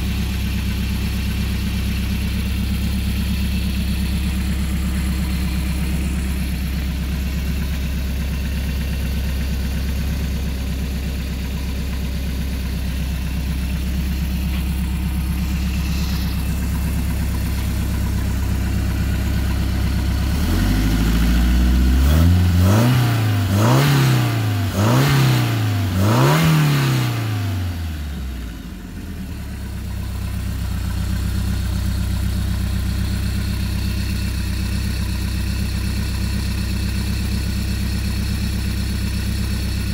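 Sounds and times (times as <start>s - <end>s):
boat engine idling and revving: 0.0s - 38.3s.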